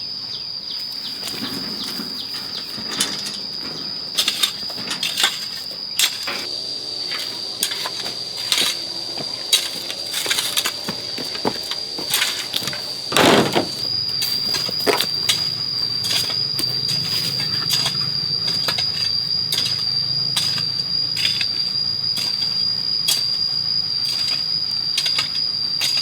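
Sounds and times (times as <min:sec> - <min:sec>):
insects droning: 0:00.0 - 0:26.0
hand tools working soil: 0:01.1 - 0:26.0.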